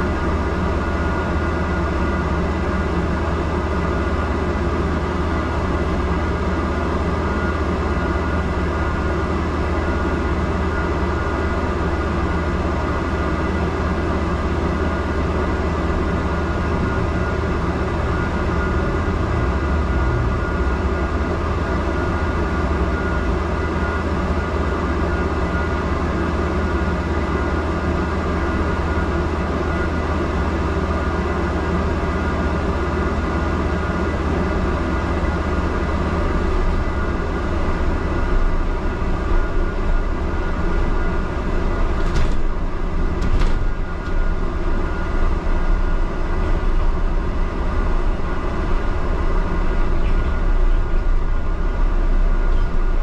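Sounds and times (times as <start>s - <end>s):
bus engine idling hum: 0.0s - 53.0s.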